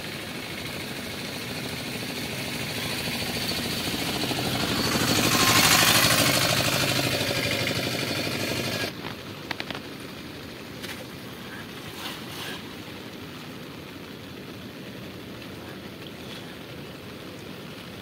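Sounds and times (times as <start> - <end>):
pulsing engine passing by: 0.0 - 18.0.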